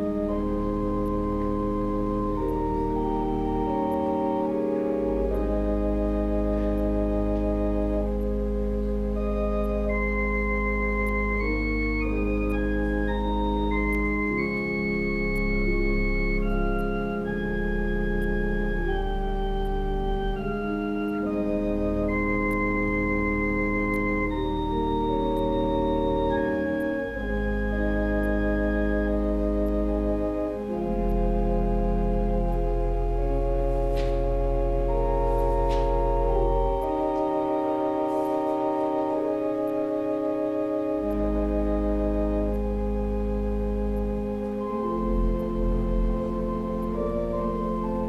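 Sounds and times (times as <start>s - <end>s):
deep organ pedal bass: 0.0s - 48.0s
organ chords: 0.0s - 48.0s.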